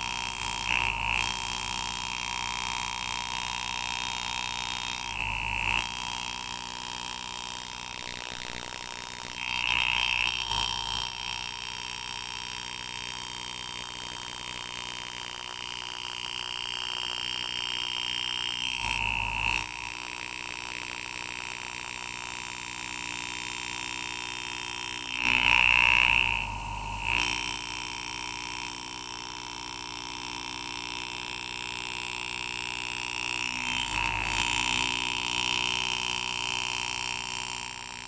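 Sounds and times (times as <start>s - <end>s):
engraving handpiece buzzing: 0.0s - 38.0s.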